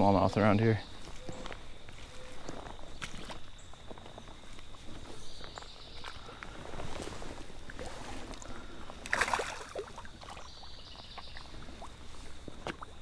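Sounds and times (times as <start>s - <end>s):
creek water splashing: 0.9s - 3.9s, 4.5s - 13.0s.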